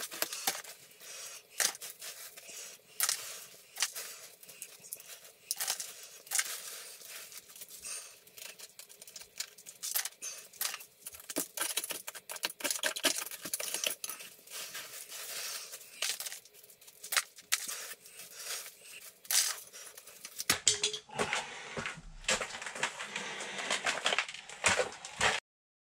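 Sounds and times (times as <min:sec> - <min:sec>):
concrete chips and gravel clattering: 0:00.0 - 0:21.3, 0:22.3 - 0:25.4.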